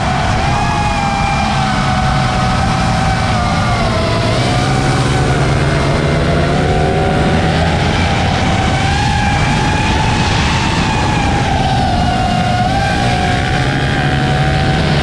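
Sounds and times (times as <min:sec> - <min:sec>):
small high-revving motors whining: 0:00.0 - 0:15.0.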